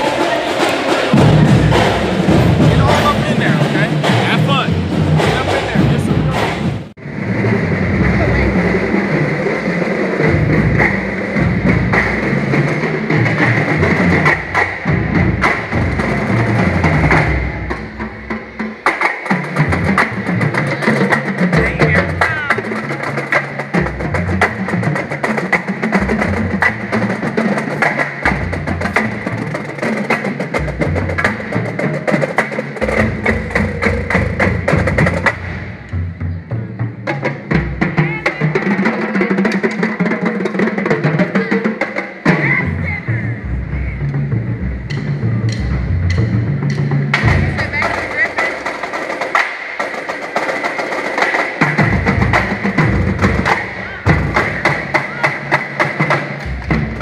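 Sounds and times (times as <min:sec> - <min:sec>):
drumline playing snare and tenor drums: 0:00.0 - 0:57.0.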